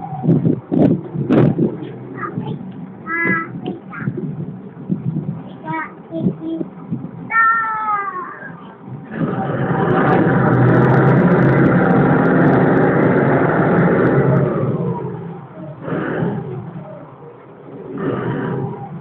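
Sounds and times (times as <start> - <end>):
ferry engine revving: 0.0 - 19.0.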